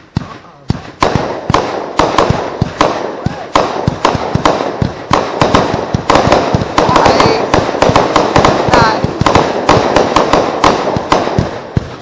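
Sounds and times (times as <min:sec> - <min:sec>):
firework cakes firing rapidly: 0:00.0 - 0:12.0
firework crackling: 0:00.0 - 0:12.0.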